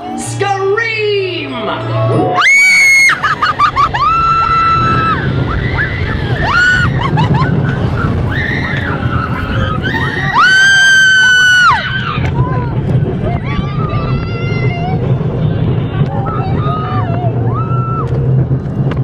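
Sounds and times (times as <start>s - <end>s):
ride low rumble: 2.1s - 19.0s.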